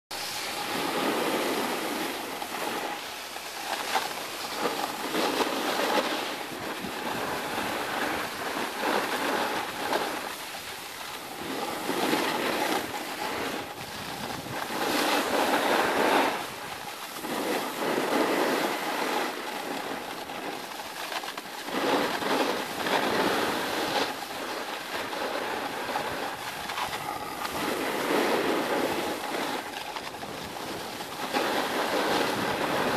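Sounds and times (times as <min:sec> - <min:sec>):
snowboard edges scraping snow: 0:00.1 - 0:32.9.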